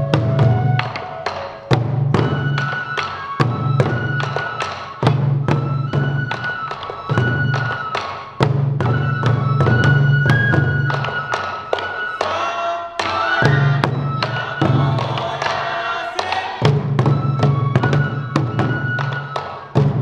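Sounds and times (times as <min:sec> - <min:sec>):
taiko drums: 0:00.0 - 0:12.4, 0:13.0 - 0:20.0
bamboo flute melody: 0:00.0 - 0:20.0.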